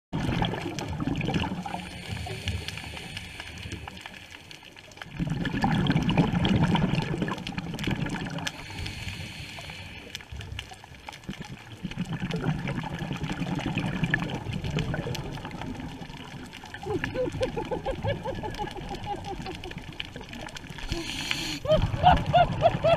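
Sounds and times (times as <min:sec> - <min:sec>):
underwater exhaled bubbles: 0:00.2 - 0:22.9.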